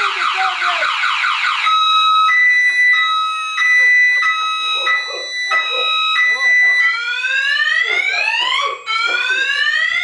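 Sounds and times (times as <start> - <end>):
electronic alarm siren: 0.0 - 10.0.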